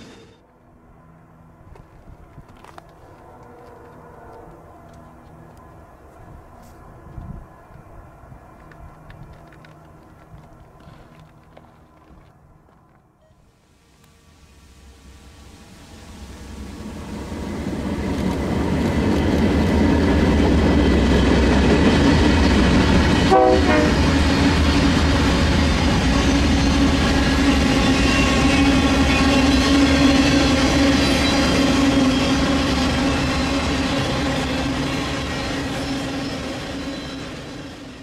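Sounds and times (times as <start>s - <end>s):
freight train rumble: 0.0s - 12.8s, 14.1s - 38.0s
train wheel and rail noise: 0.0s - 38.0s.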